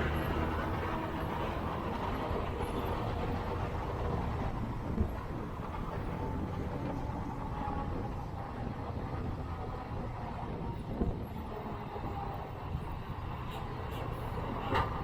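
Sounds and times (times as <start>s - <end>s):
motor scooter riding in traffic: 0.0s - 15.0s.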